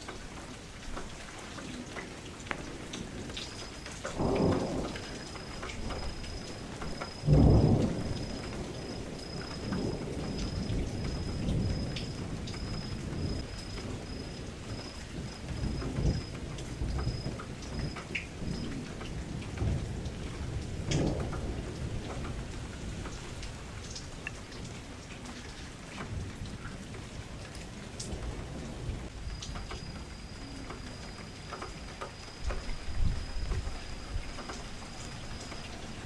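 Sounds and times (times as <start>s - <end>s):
rain on window glass: 0.0s - 36.0s.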